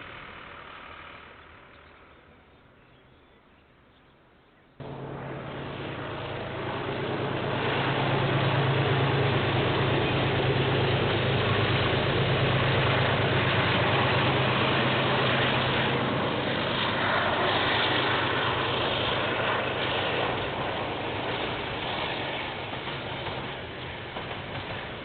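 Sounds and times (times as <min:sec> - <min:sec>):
diesel train engine drone: 0:00.0 - 0:25.0
train rolling noise: 0:04.8 - 0:25.0.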